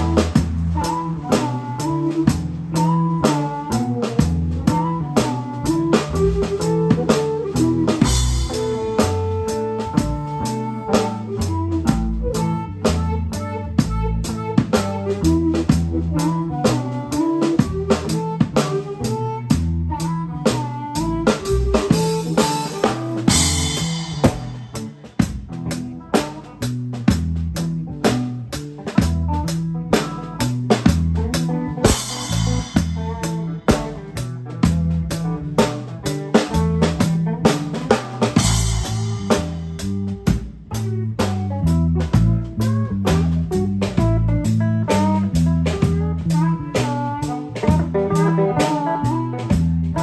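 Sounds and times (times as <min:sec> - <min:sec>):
drum kit beat: 0:00.0 - 0:50.0
harmonica through microphone: 0:00.0 - 0:50.0.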